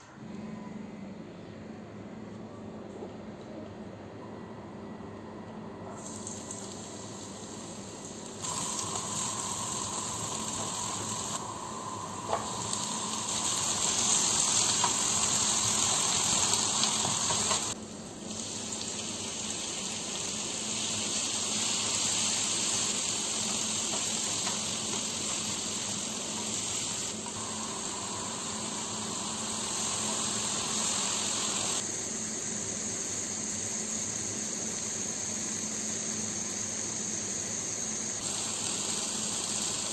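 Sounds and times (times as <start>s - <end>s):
cooking sounds: 5.9s - 39.9s
water hissing: 6.0s - 17.8s, 18.5s - 39.9s.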